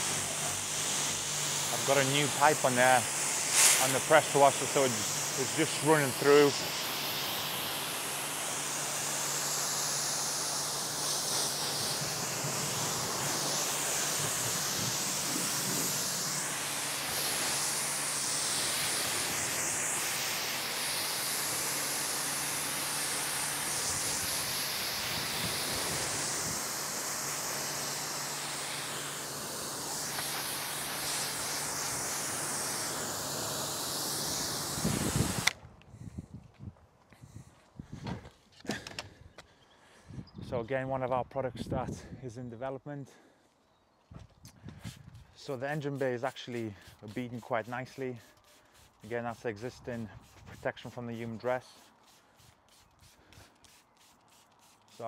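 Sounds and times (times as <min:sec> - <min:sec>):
pressure washer spray hissing: 0:00.0 - 0:35.6, 0:44.8 - 0:55.0.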